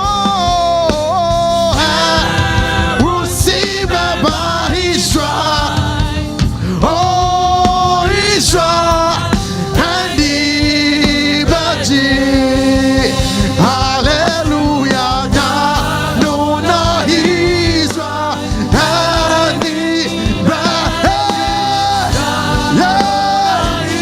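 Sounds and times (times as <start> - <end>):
gospel singers with band: 0.0 - 24.0.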